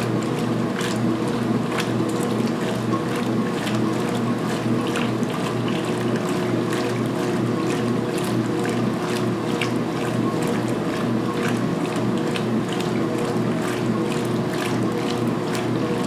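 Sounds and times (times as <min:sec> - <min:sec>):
washer motor hum: 0:00.0 - 0:16.0.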